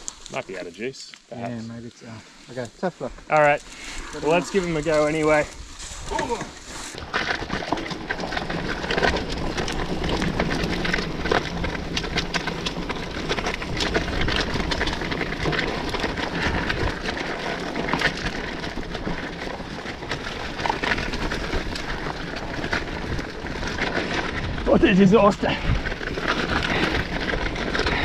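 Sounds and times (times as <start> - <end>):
bike tyres on muddy trail: 0.0 - 28.0
bike rattling over roots and stones: 2.5 - 28.0.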